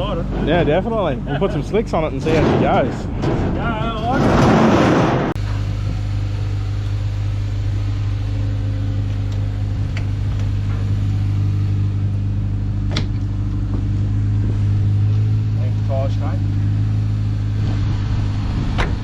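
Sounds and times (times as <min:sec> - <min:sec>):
car engine idling: 0:00.0 - 0:04.4, 0:05.2 - 0:19.0.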